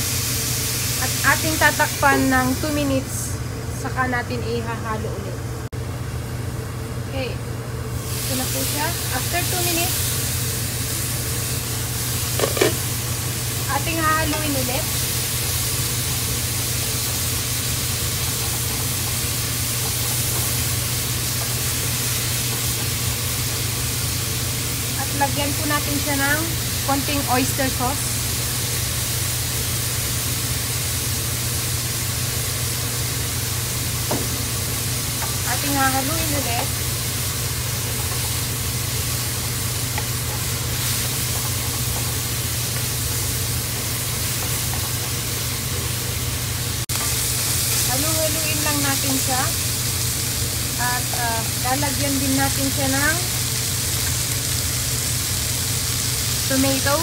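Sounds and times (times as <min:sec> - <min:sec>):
pork and vegetables sizzling: 0:00.0 - 0:05.0, 0:07.1 - 0:57.0
constant low hum: 0:00.0 - 0:57.0.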